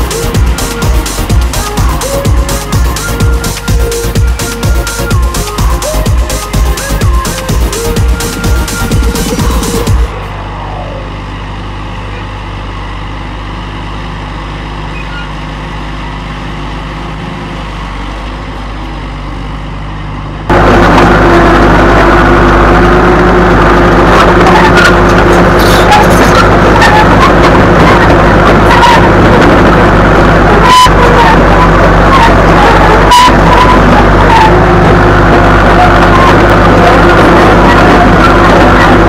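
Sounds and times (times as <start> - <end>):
dozer diesel engine running: 0.0 - 39.0.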